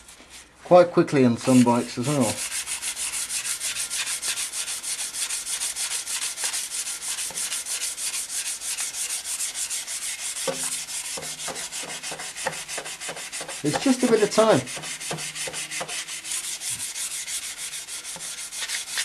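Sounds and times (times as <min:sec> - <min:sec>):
sandpaper scratching metal: 0:01.4 - 0:19.0.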